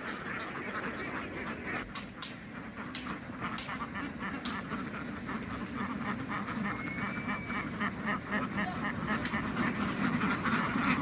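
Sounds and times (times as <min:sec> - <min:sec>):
flock of ducks quacking: 0:00.0 - 0:11.0.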